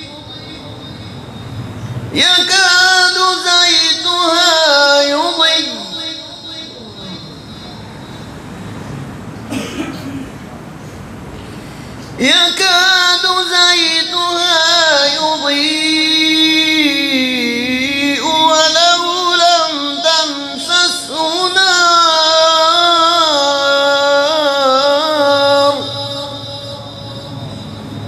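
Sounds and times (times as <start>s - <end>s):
man reciting melodically: 0.0s - 8.4s, 12.1s - 28.0s.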